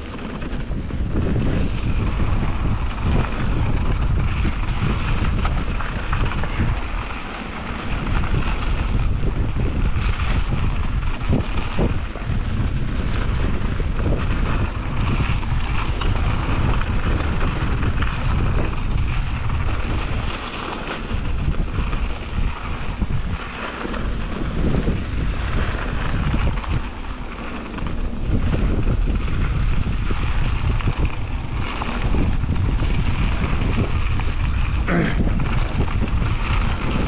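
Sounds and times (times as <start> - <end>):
bike clicks and rattles: 0.0 - 37.0
tyres rushing on dirt trail: 0.0 - 37.0
wind buffeting microphone: 0.0 - 37.0.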